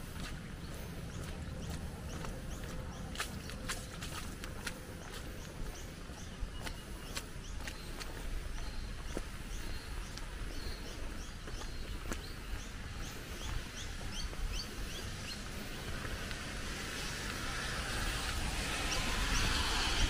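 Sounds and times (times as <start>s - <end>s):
flowing water: 0.0s - 20.0s.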